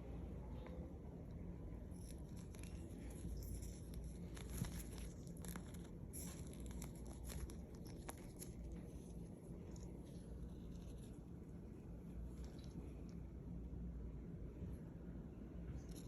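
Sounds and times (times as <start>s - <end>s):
faint scratching and rustling: 0.0s - 13.7s.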